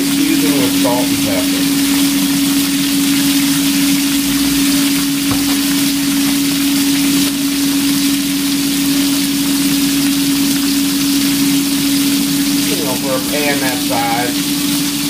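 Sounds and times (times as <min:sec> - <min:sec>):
beans sizzling in a skillet: 0:00.0 - 0:15.0.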